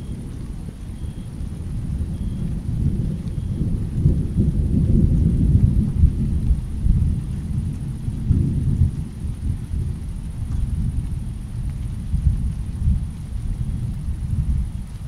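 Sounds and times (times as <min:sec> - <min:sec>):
distant thunder rumbling: 0:00.0 - 0:15.0
rain: 0:00.0 - 0:15.0.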